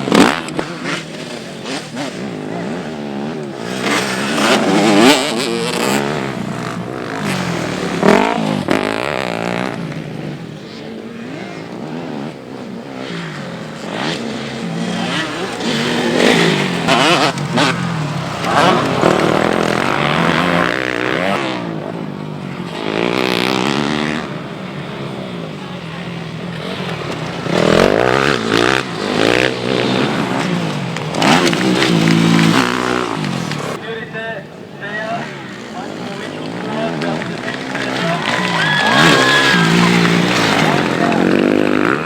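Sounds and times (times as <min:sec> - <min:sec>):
motocross bikes revving: 0:00.0 - 0:42.0.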